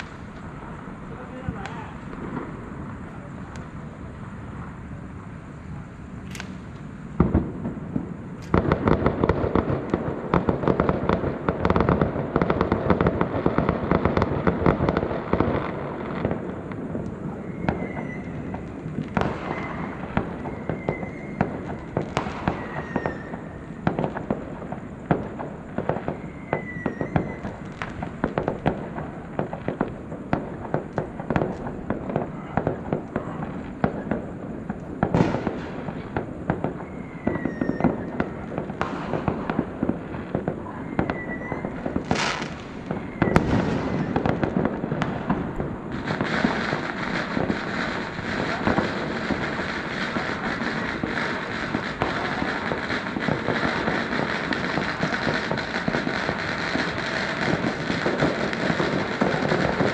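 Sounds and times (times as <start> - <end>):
firecrackers crackling: 0.0 - 59.9
firework bang: 0.0 - 59.9.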